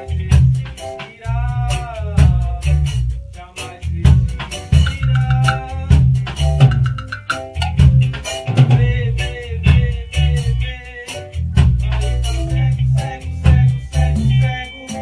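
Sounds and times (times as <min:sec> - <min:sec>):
full band playing: 0:00.0 - 0:15.0.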